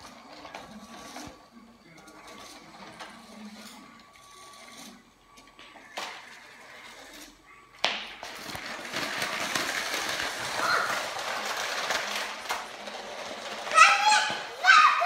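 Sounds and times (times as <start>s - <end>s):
toy train wheels clattering: 0.0s - 7.4s, 8.2s - 15.0s.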